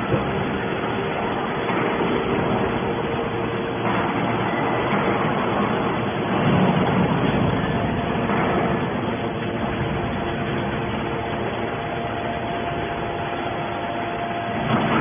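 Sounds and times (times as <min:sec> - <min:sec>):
baling machine drone: 0:00.0 - 0:15.0
faint hum: 0:00.0 - 0:15.0.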